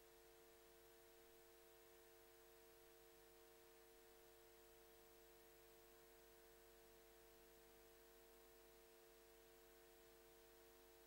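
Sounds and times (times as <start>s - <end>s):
faint steady hum and hiss: 0.0s - 11.0s.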